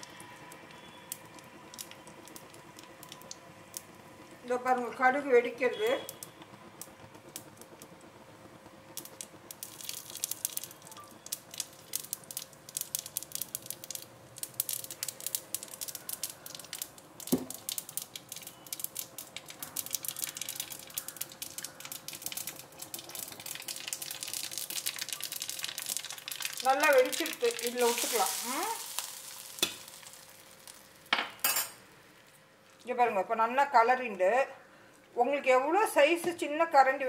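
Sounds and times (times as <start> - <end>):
mustard seeds crackling in hot oil: 0.0 - 33.7.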